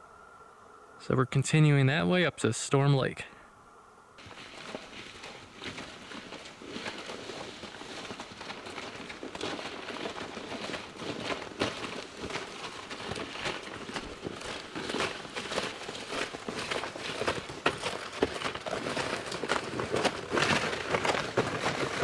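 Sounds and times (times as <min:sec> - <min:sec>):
sled sliding over snow: 0:04.2 - 0:22.0
snowshoes crunching on snow: 0:04.2 - 0:22.0.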